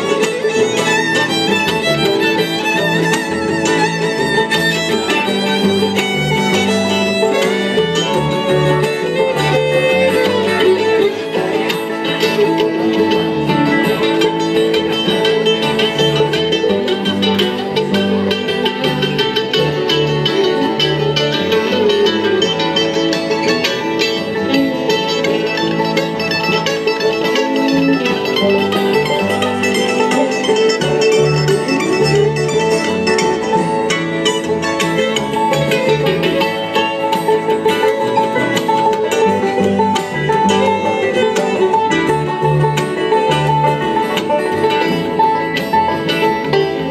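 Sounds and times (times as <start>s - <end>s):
acoustic guitar: 0.0s - 46.9s
banjo: 0.0s - 46.9s
fiddle: 0.0s - 46.9s
mandolin: 0.0s - 46.9s
upright bass: 0.0s - 46.9s.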